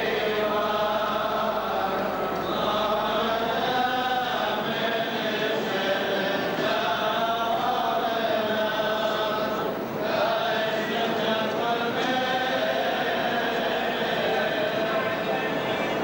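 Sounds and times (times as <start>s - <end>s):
choir chanting a hymn: 0.0s - 16.0s.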